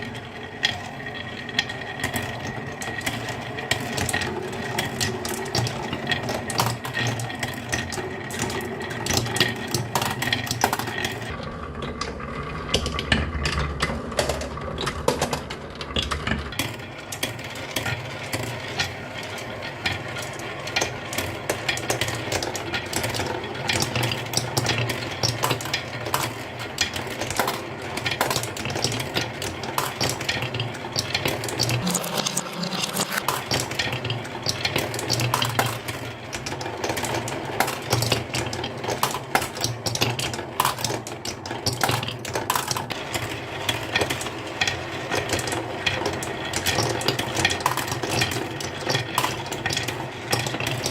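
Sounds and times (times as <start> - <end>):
marbles clicking along a marble run: 0.0 - 50.9.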